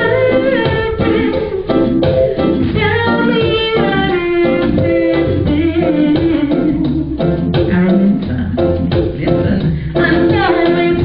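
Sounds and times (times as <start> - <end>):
woman singing: 0.0 - 1.9, 2.6 - 8.3, 9.1 - 11.0
band playing: 0.0 - 11.0.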